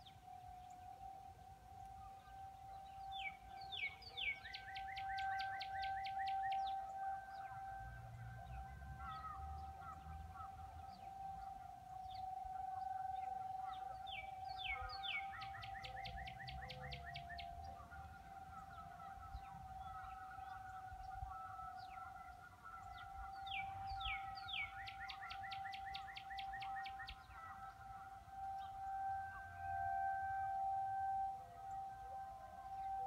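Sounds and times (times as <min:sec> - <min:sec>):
bird singing: 0:00.0 - 0:33.0
distant warning sirens: 0:00.0 - 0:33.0.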